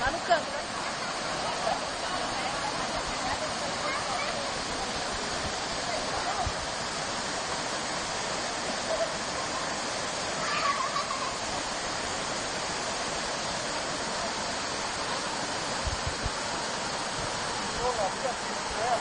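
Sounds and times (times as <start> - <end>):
rush of falling water: 0.0 - 19.0.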